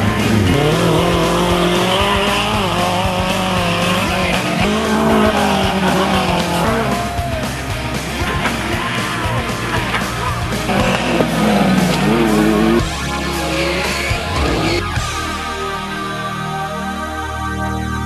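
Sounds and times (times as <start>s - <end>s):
truck engine revving: 0.0s - 16.1s
rock music: 0.0s - 18.0s.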